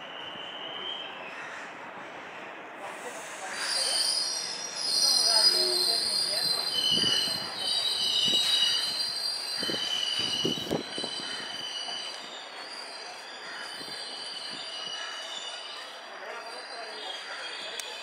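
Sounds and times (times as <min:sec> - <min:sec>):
train wheels squealing on rails: 0:00.0 - 0:18.0.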